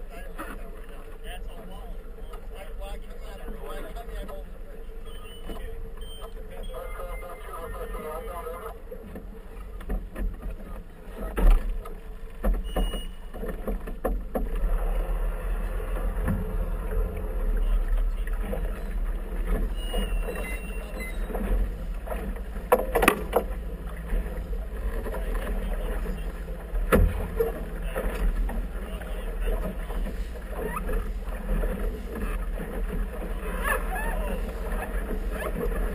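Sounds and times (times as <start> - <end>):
motorboat engine rumble: 0.0 - 35.9
water rushing along hull: 0.0 - 35.9.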